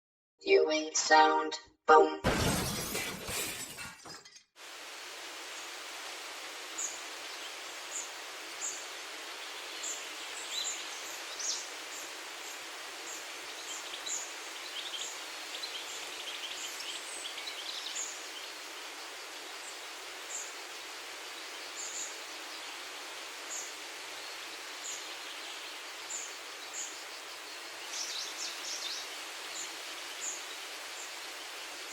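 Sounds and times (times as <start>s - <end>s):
leaves rustling in a breeze: 4.6s - 31.9s.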